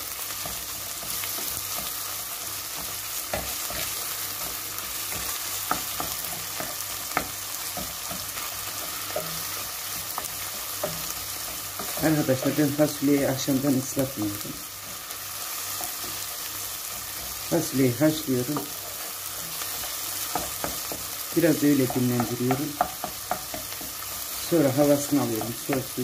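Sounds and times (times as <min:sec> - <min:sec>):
food sizzling in a pot: 0:00.0 - 0:26.0
wooden spoon tapping and scraping pan: 0:00.2 - 0:26.0.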